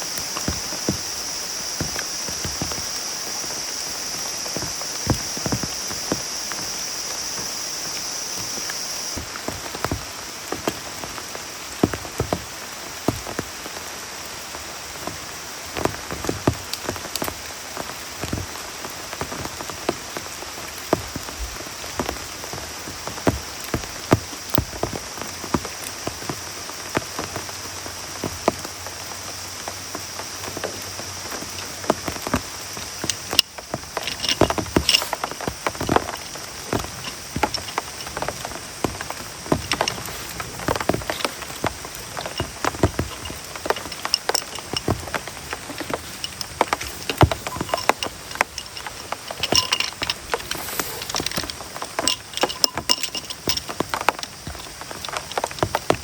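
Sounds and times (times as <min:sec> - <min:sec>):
heavy rain hissing: 0:00.0 - 0:56.0
large raindrops tapping: 0:00.0 - 0:56.0.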